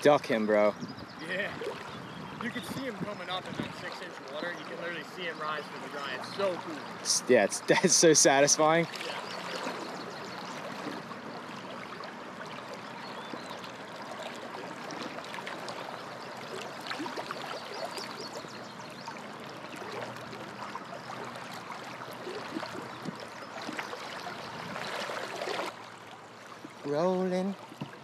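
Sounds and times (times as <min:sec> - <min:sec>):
river flowing and gurgling: 0:00.0 - 0:28.0.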